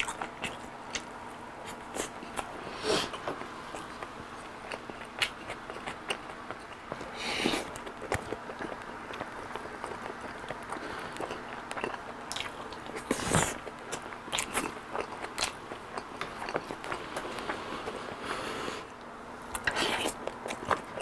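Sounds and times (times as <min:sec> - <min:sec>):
chewing with mouth clicks: 0:00.0 - 0:18.1, 0:18.9 - 0:21.0.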